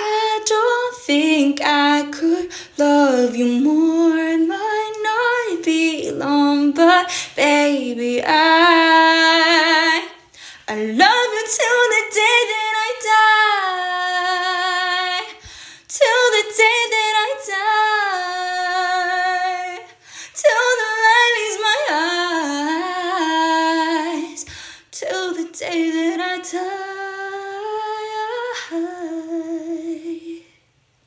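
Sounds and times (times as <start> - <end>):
woman singing unaccompanied: 0.0 - 30.6.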